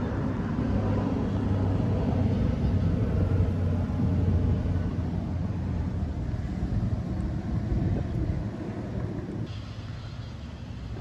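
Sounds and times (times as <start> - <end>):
street traffic rumble: 0.0 - 11.0
vehicle engine drone: 0.0 - 11.0.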